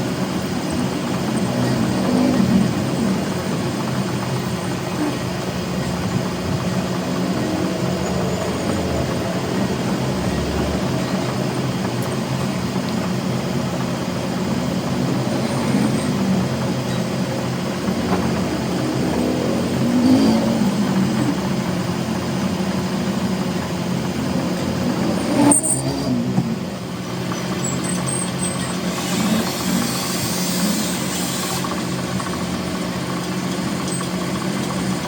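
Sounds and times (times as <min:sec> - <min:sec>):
machine motor humming and whirring: 0:00.0 - 0:35.0.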